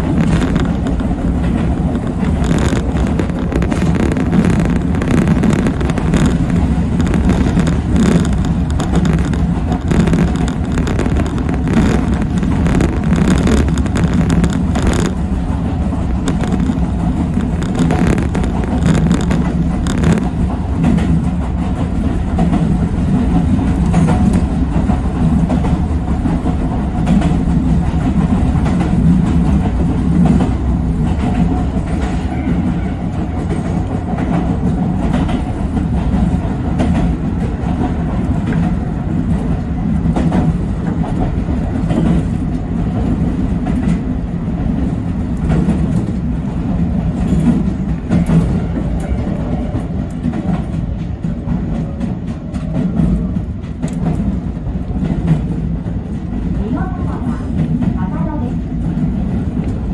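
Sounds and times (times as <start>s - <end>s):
electric train rumble: 0.0s - 59.9s
wheels clicking over rails: 0.0s - 59.9s.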